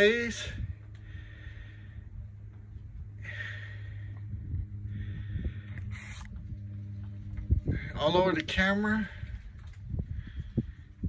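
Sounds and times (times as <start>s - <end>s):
low steady hum: 0.0s - 11.0s
man breathing close to microphone: 0.6s - 8.0s, 9.0s - 11.0s.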